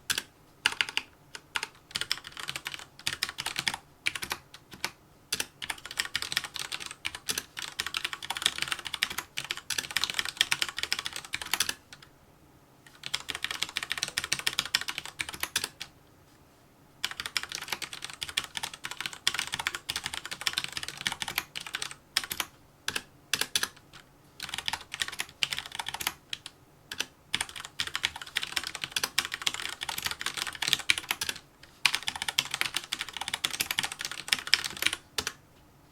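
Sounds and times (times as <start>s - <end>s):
typing on mechanical keyboard: 0.1s - 12.1s, 12.9s - 15.9s, 17.0s - 35.4s.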